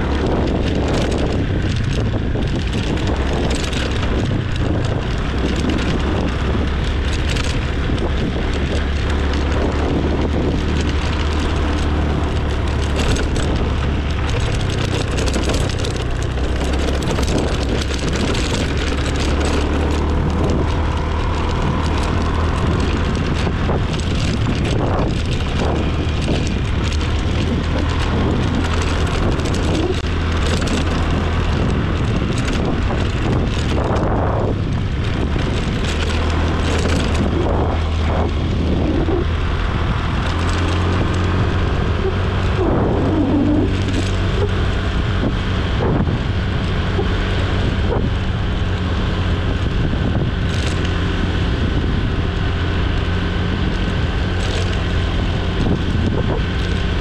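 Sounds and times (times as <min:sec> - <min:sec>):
motor scooter engine drone: 0:00.0 - 0:57.0
wind rushing over microphone: 0:00.0 - 0:57.0.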